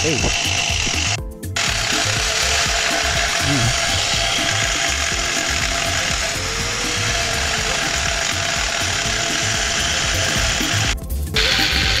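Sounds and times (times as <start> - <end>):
angle grinder cutting steel: 0.0 - 12.0.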